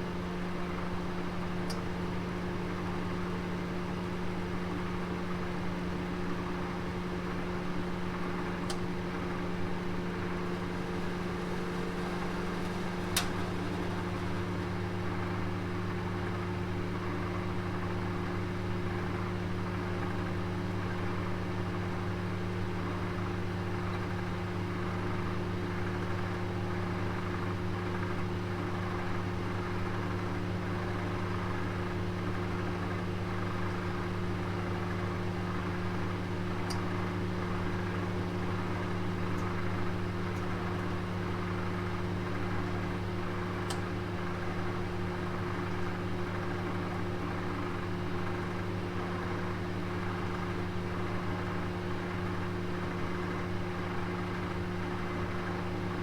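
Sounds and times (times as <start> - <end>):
oven humming: 0.0 - 56.0.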